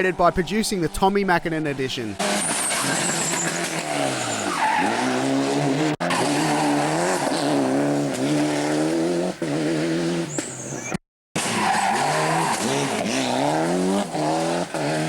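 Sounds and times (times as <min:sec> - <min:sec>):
tyres skidding: 0:00.0 - 0:15.0
car engine revving hard: 0:02.2 - 0:15.0.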